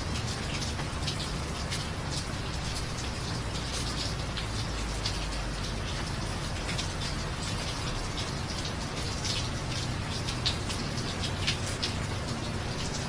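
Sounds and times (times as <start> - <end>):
drips and splashes: 0.0 - 13.0
steady rain falling: 0.0 - 13.0.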